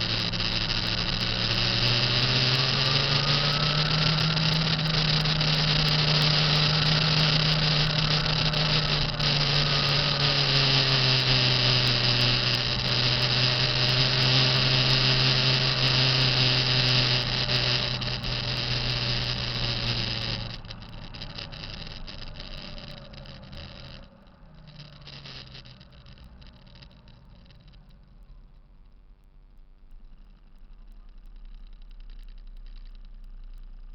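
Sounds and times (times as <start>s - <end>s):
diesel engine running: 0.0s - 28.5s
turbocharger whining: 0.0s - 33.9s.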